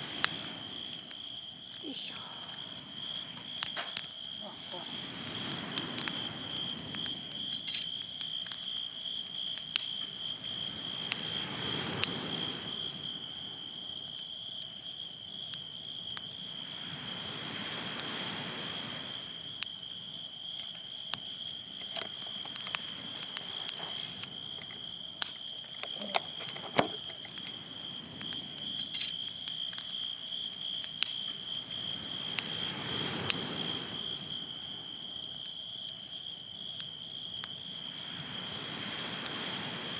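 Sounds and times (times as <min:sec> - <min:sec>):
campfire crackling pops: 0:00.0 - 0:39.9
insects trilling: 0:00.0 - 0:39.9.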